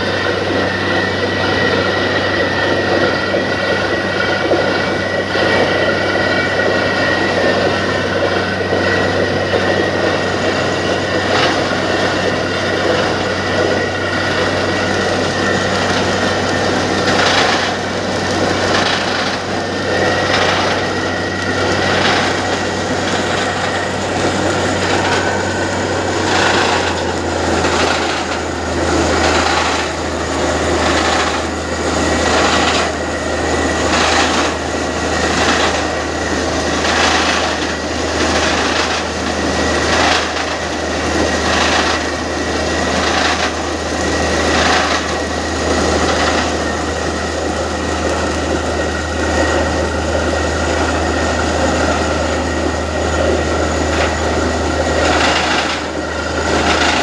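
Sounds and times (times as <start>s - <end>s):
drilling rig engine hum: 0.0s - 57.0s
harsh pulsing drilling noise: 0.0s - 57.0s.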